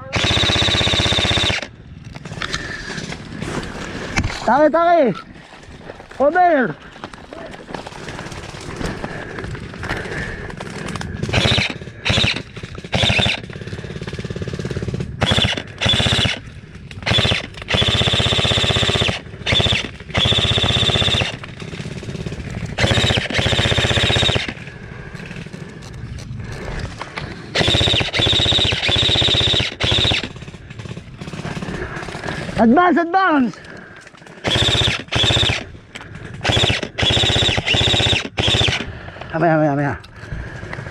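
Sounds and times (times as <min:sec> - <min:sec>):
airsoft guns firing full auto: 0:00.0 - 0:03.1, 0:07.8 - 0:25.7, 0:27.3 - 0:39.9.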